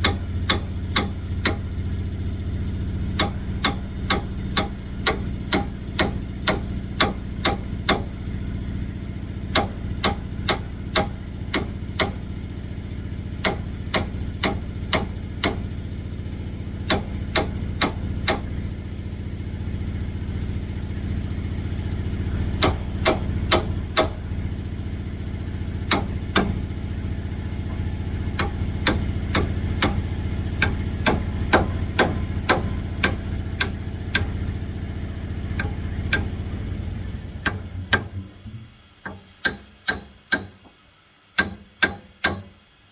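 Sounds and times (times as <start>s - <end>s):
engine idling: 0.0s - 40.8s.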